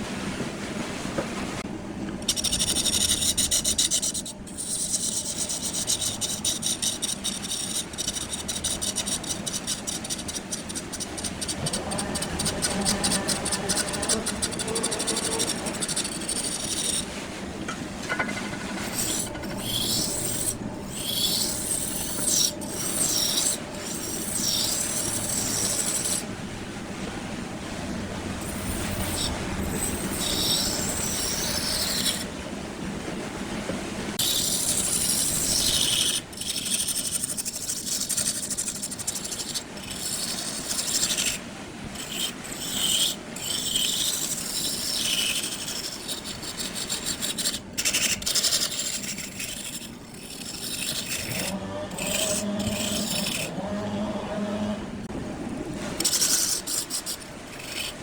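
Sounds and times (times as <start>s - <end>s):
lathe tool scraping wood: 2.2s - 26.3s, 28.4s - 32.3s, 34.2s - 58.0s.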